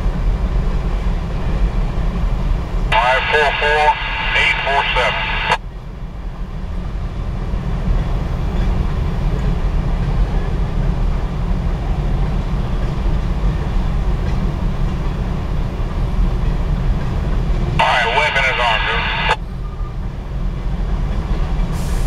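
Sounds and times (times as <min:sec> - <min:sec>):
freight train wheels rumbling on rails: 0:00.0 - 0:03.0, 0:04.9 - 0:17.8, 0:19.3 - 0:22.0.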